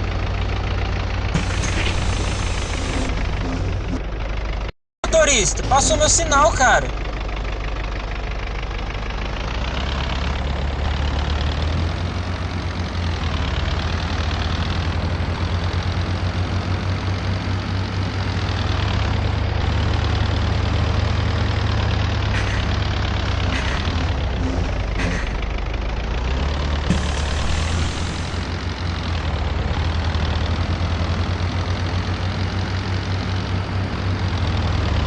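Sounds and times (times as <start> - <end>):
bus diesel engine drone: 0.0 - 35.0
road noise: 0.0 - 35.0.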